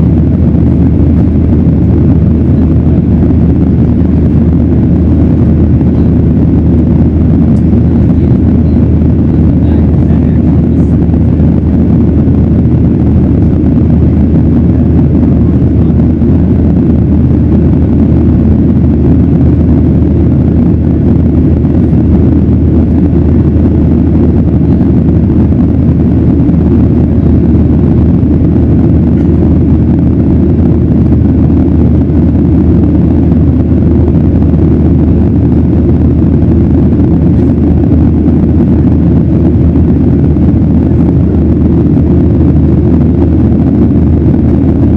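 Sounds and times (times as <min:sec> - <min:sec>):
jet engine rumble in cabin: 0:00.0 - 0:44.9.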